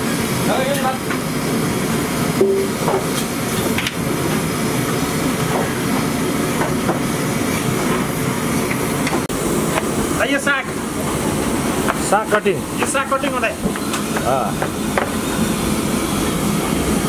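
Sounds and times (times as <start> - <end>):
frying oil sizzling: 0.0 - 17.0.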